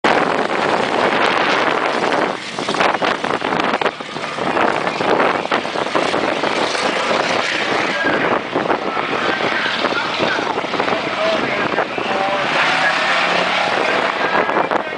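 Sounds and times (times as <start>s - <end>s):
race car engines roaring: 0.0s - 14.9s.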